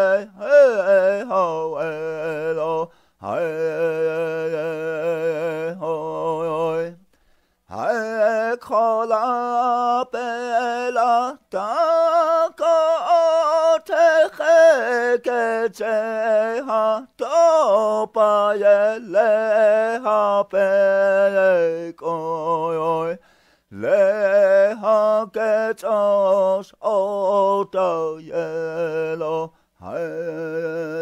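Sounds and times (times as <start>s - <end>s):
man chanting unaccompanied: 0.0s - 7.0s, 7.7s - 31.0s.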